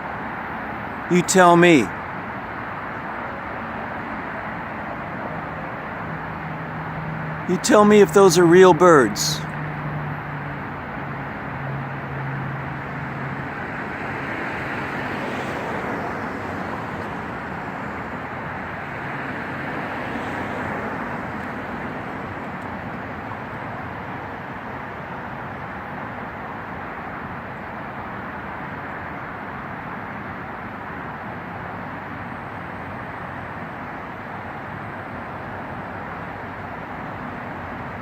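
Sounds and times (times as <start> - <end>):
road traffic rushing: 0.0 - 38.0.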